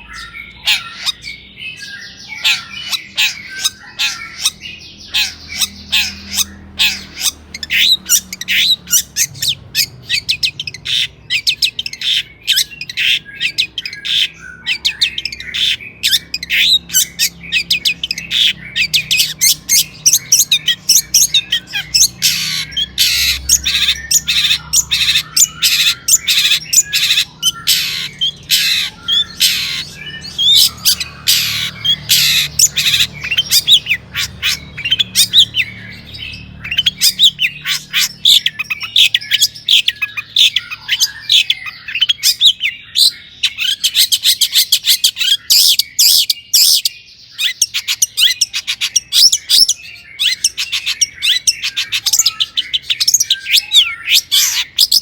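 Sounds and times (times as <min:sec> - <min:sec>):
bird singing harsh chattering notes: 0:00.0 - 0:55.0.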